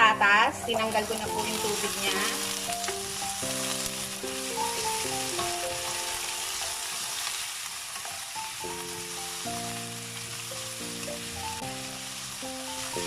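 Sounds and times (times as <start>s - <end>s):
background music: 0.0s - 7.1s, 8.2s - 13.0s
vegetables sizzling in oil: 0.0s - 13.0s.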